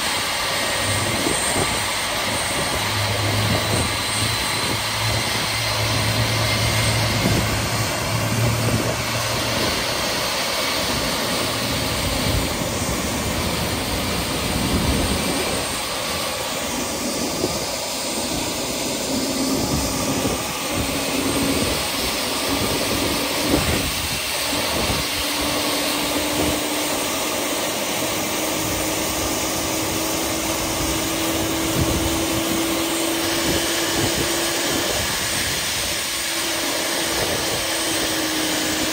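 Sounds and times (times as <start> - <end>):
jet engine running: 0.0 - 38.9.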